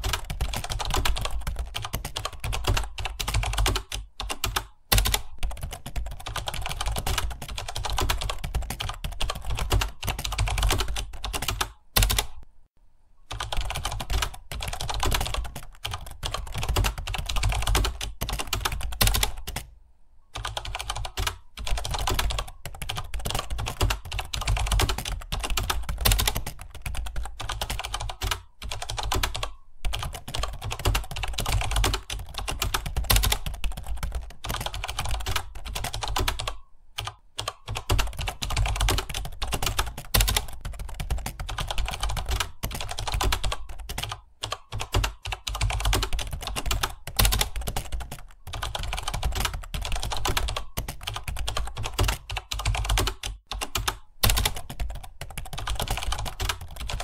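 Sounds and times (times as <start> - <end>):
fast typing on a keyboard: 0.0 - 12.4, 13.3 - 19.7, 20.4 - 57.0.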